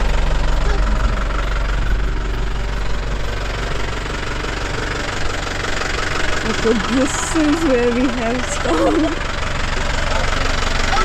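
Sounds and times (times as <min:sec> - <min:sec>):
jeep engine running: 0:00.0 - 0:11.0.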